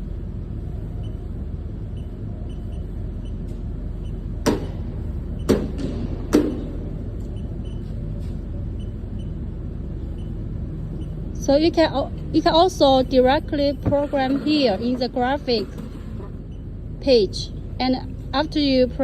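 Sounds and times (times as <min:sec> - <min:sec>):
low hum of running machinery: 0:00.0 - 0:19.0.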